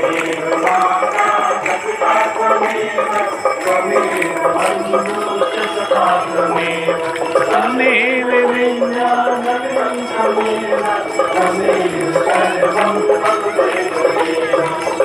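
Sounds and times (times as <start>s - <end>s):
bell ringing: 0.0s - 15.0s
devotional melody: 0.0s - 15.0s.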